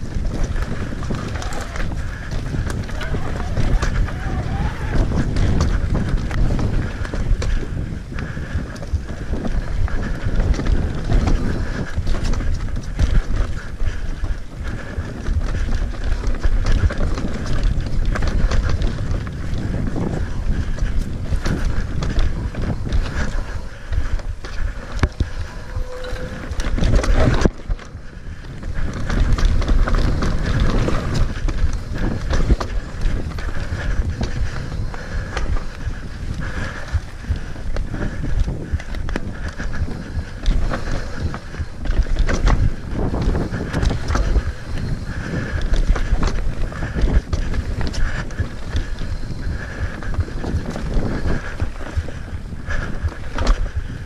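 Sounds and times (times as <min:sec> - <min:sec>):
bike rattling: 0:00.0 - 0:54.0
tyres rumbling on dirt: 0:00.0 - 0:54.0
wind buffeting microphone: 0:00.0 - 0:54.0.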